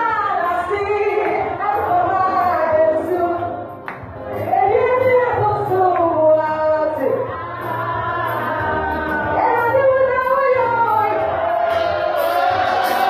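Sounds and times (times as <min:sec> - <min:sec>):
woman singing gospel: 0:00.0 - 0:11.8
backing music: 0:00.0 - 0:13.0.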